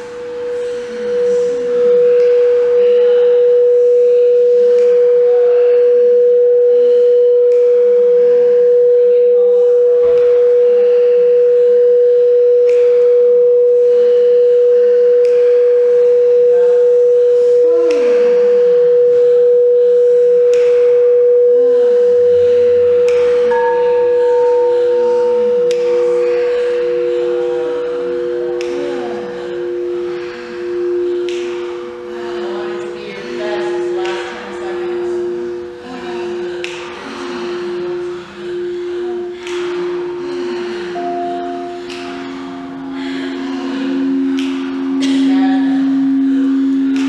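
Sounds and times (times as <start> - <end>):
singing bowl tone: 0.0 - 47.0.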